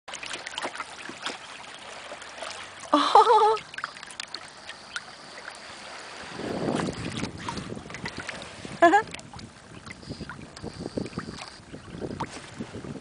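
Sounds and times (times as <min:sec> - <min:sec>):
water splashing and lapping: 0:00.1 - 0:13.0.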